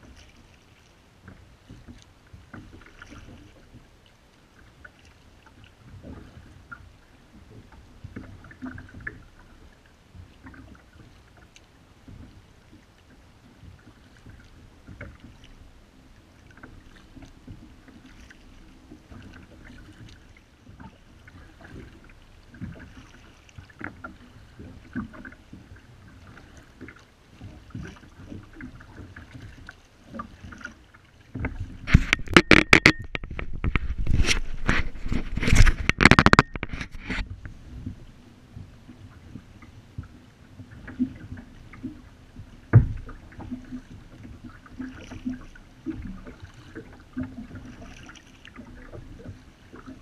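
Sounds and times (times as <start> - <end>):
kayak paddle strokes in water: 0.0 - 50.0.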